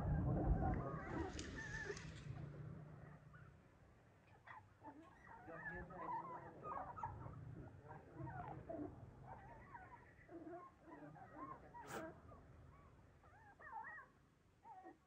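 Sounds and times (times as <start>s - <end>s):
puppies whimpering: 0.3s - 2.1s, 4.4s - 15.0s.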